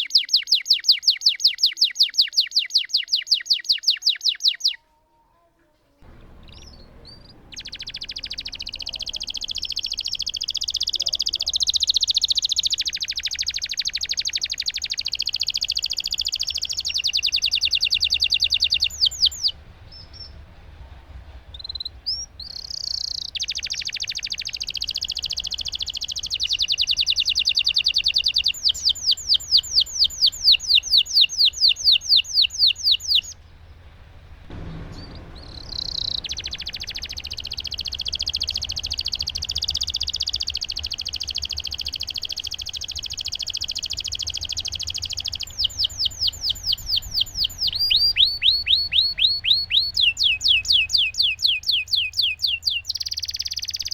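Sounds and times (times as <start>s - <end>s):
canary singing trills: 0.0s - 4.9s, 6.0s - 20.4s, 21.6s - 33.5s, 34.5s - 53.9s.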